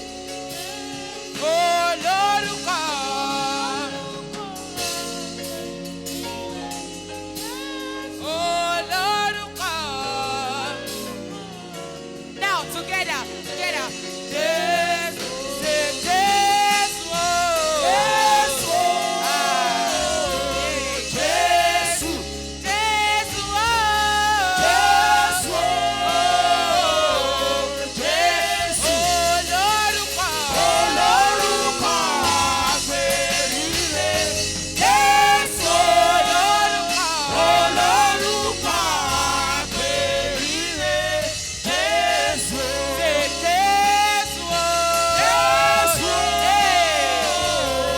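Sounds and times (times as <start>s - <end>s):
band with sustained bass: 0.0s - 47.9s
church choir singing gospel: 0.0s - 47.9s.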